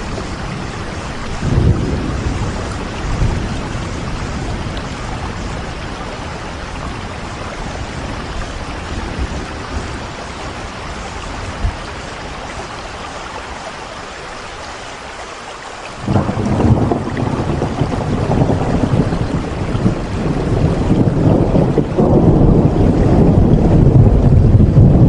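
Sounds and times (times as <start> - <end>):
low thunder rumble: 0.0 - 12.2, 16.0 - 25.0
steady rain falling: 0.0 - 25.0.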